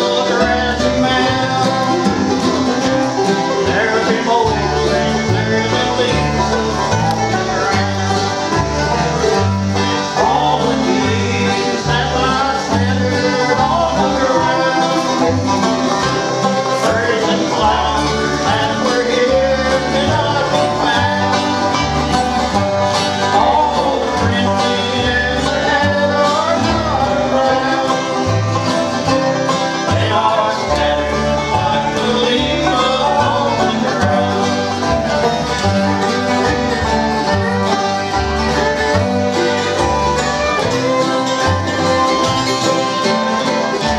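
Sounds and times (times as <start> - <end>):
acoustic guitars: 0.0 - 43.9
banjo: 0.0 - 43.9
fiddle: 0.0 - 43.9
upright bass walking: 0.0 - 43.9.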